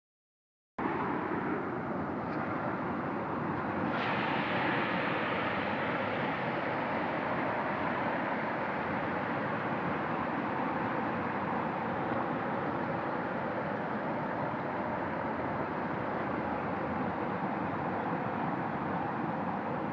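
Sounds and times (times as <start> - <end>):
river rapids rushing: 0.8 - 19.9.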